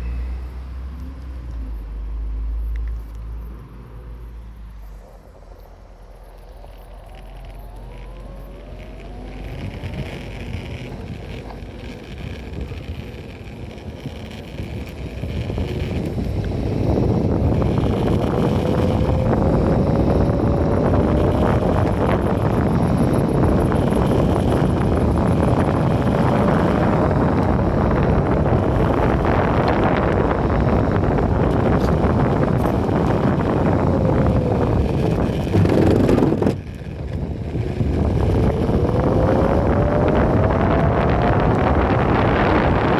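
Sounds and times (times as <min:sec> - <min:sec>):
faint motor whine: 0:00.0 - 0:42.9
wind rushing over microphone: 0:00.0 - 0:42.9.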